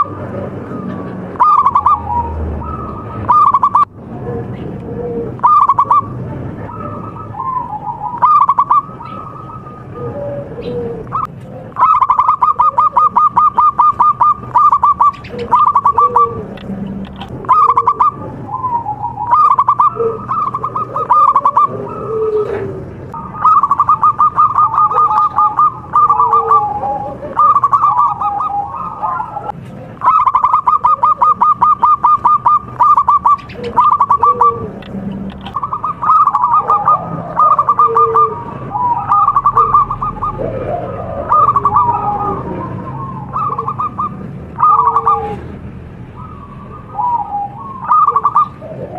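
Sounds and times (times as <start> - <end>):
dove cooing: 0.0 - 48.9
doves singing staccato bursts: 0.0 - 48.9.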